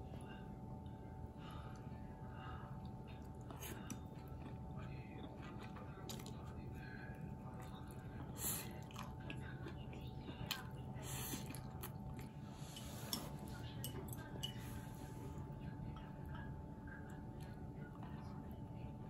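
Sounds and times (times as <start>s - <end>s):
faint steady hum: 0.0s - 19.0s
chewing noodles and meat: 1.6s - 18.9s.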